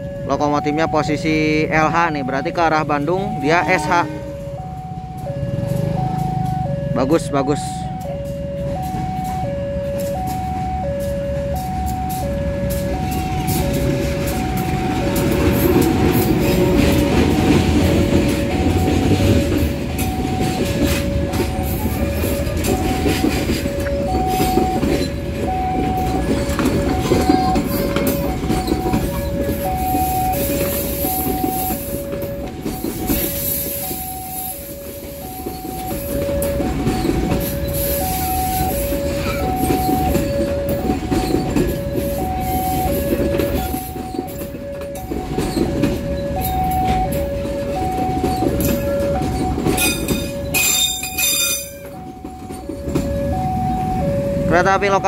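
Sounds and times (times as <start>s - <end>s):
train rumbling and clacking: 0.0s - 55.0s.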